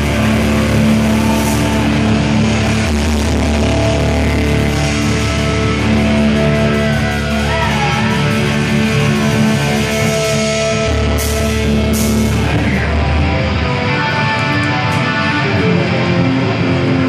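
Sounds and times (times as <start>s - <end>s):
punk band playing live: 0.0s - 17.0s.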